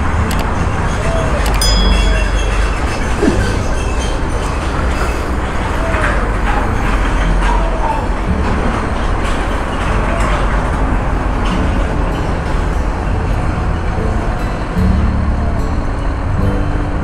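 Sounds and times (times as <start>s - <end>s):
heavy truck engines rumbling: 0.0s - 17.0s
street noise: 0.0s - 17.0s.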